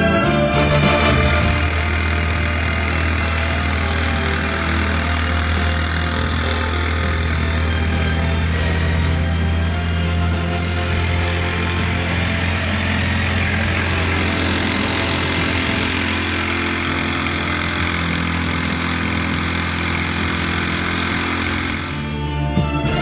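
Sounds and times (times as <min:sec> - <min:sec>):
engine running steadily: 0:00.0 - 0:22.4.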